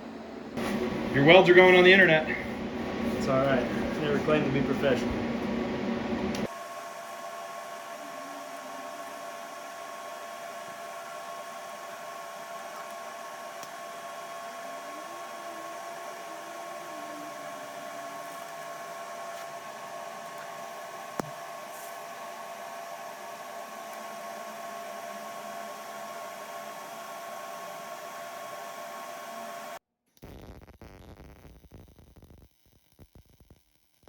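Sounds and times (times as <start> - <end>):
machine hiss and hum: 0.0 - 29.8.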